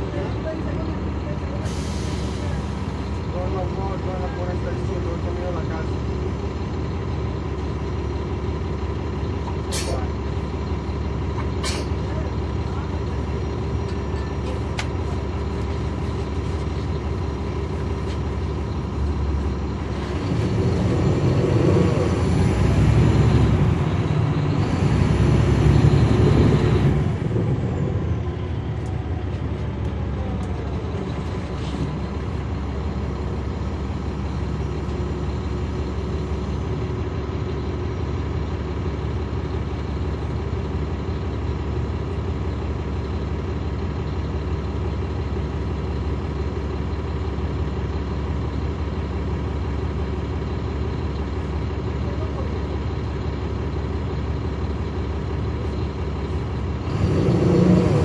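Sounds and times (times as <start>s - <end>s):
bus diesel engine running: 0.0s - 58.0s
high engine whine: 0.0s - 58.0s.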